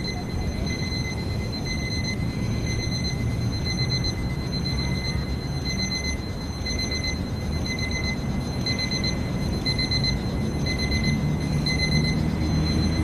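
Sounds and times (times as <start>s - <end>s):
electronic alarm beeping: 0.0s - 13.0s.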